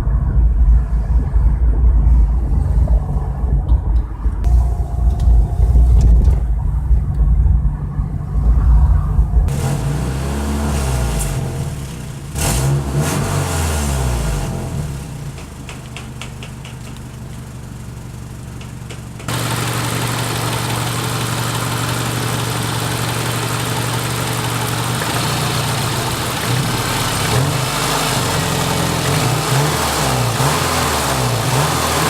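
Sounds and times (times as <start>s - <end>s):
car engine rumbling and revving: 0.0s - 32.0s.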